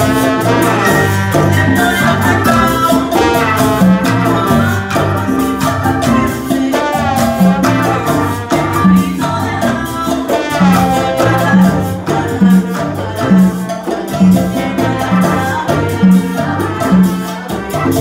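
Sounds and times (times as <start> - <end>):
people singing: 0.0 - 17.7
bass line: 0.0 - 18.0
hand percussion: 0.0 - 18.0
trumpets and trombone: 0.0 - 18.0.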